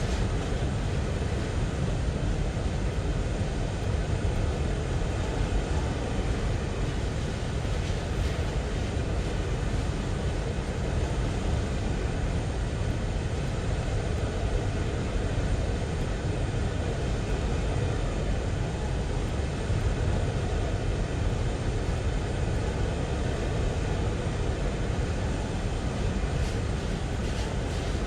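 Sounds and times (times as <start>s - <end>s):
train rumbling by: 0.0s - 28.0s.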